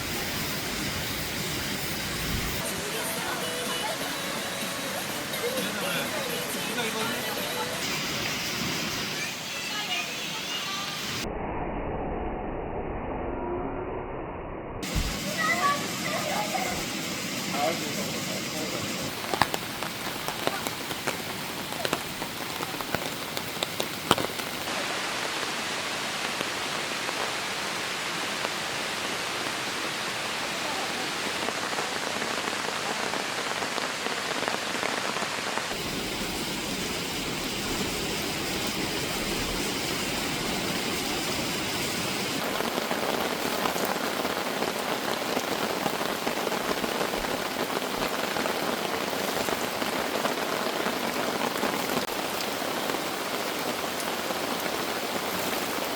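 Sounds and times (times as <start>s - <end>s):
heavy rain pouring: 0.0s - 11.2s, 14.8s - 55.9s.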